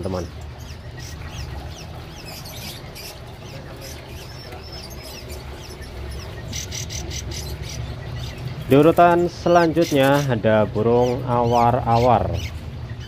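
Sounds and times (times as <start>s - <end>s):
low steady hum: 0.0s - 13.0s
songbirds chirping: 0.0s - 13.0s.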